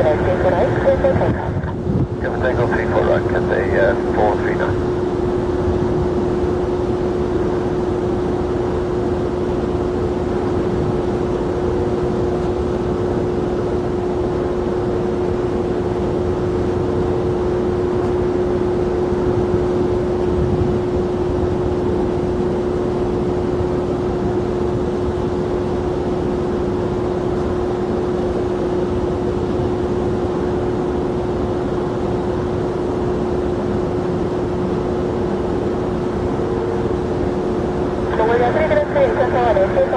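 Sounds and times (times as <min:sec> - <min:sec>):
jet engine humming: 0:00.0 - 0:26.2, 0:31.5 - 0:39.9.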